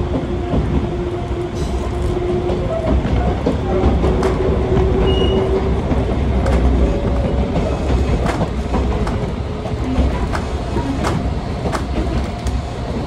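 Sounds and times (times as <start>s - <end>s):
train wheels rumbling on rail: 0.0s - 13.0s
wheels clicking on rail joints: 0.0s - 13.0s.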